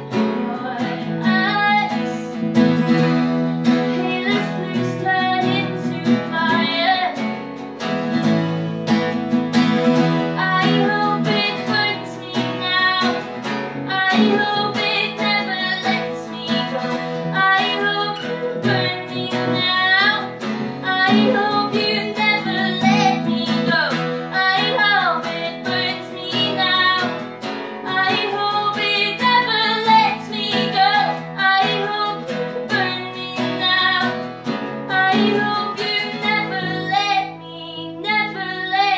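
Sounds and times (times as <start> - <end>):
woman singing: 0.0 - 8.2, 10.0 - 38.9
acoustic guitar chords: 0.0 - 38.9.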